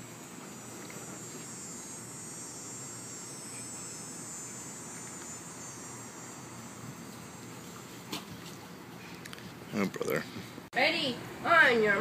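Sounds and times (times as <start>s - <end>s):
high-pitched backyard buzz: 0.0s - 12.0s.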